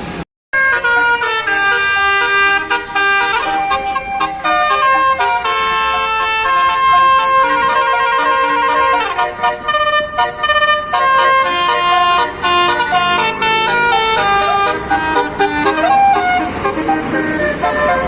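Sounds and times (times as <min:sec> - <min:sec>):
bus horn playing a melody: 0:00.6 - 0:18.0.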